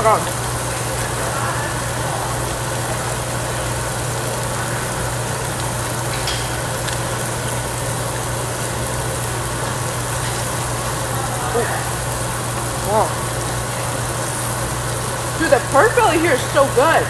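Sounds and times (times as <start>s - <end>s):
exhaust hood humming: 0.0s - 17.0s
meat sizzling on a grill: 0.0s - 17.0s.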